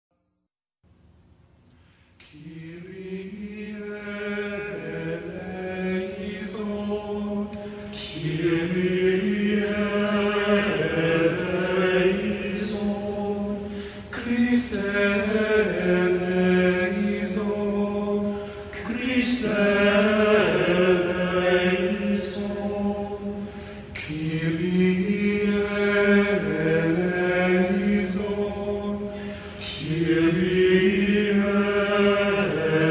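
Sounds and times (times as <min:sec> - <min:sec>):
voices singing slow chant: 0:02.1 - 0:32.9.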